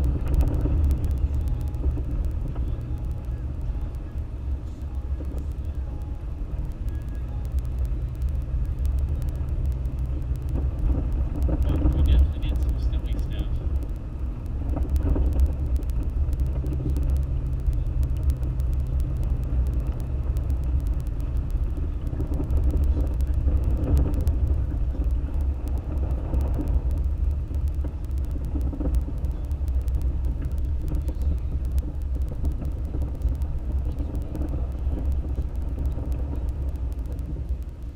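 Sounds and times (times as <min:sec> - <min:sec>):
car engine and tyres rumbling: 0:00.0 - 0:37.9.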